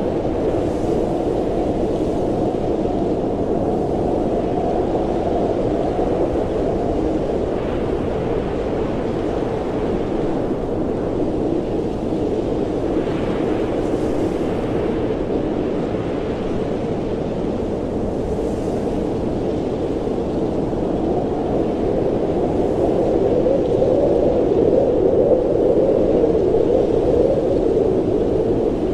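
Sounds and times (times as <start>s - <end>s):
blizzard wind blowing: 0.0s - 28.9s.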